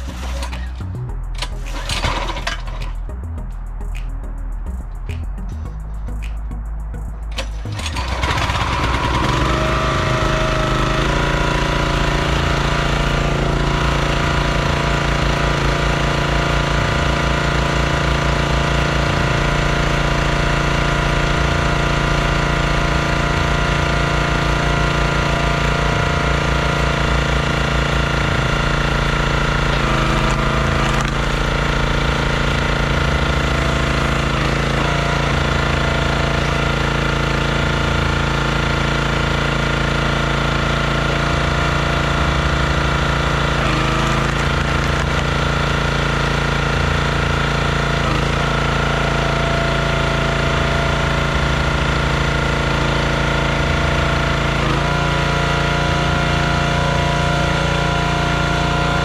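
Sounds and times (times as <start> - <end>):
log splitter engine running: 0.0 - 4.1, 4.7 - 59.0.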